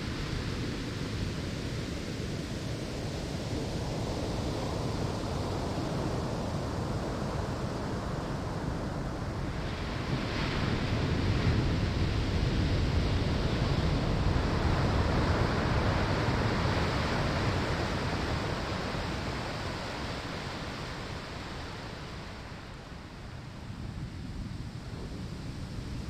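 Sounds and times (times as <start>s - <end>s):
waves breaking on sandy shore: 2.5s - 26.0s.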